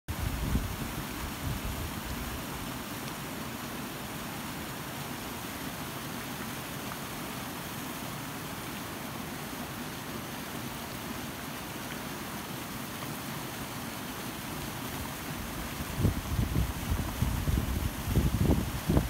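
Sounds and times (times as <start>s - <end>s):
waterfall rushing over rocks: 0.1s - 19.0s.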